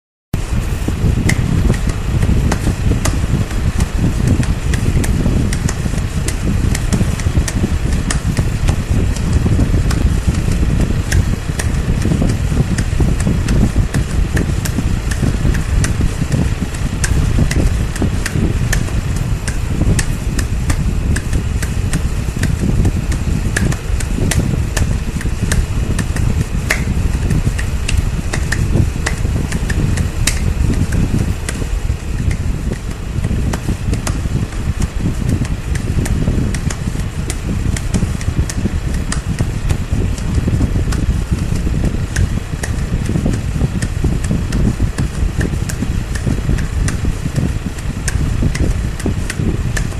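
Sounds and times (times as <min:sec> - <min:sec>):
low rumbling noise: 0:00.4 - 0:49.9.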